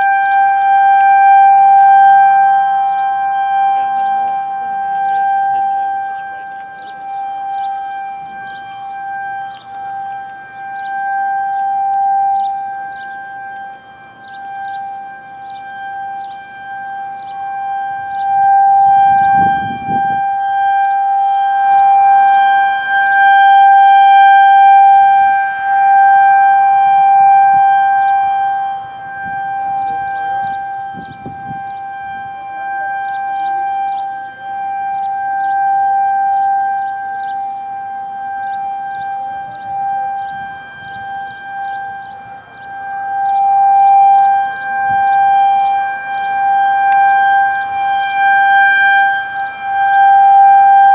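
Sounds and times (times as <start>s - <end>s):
warning siren wailing: 0.0s - 50.9s.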